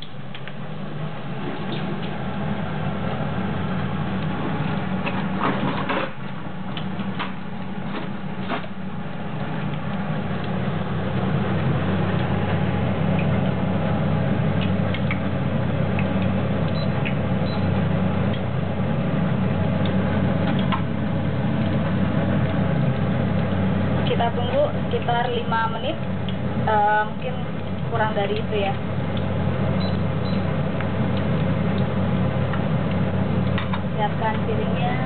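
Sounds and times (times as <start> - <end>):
batter frying in hot oil: 0.0 - 35.0
low hum: 0.0 - 35.0.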